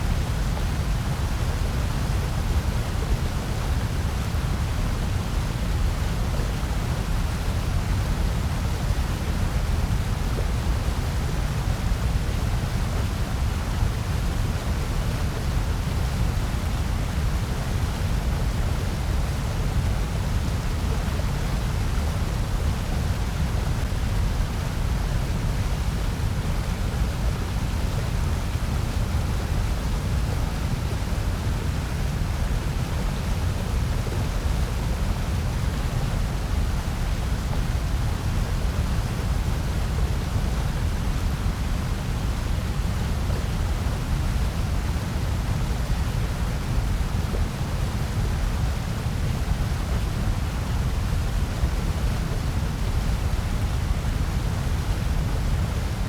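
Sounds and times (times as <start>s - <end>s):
white noise: 0.0s - 56.0s.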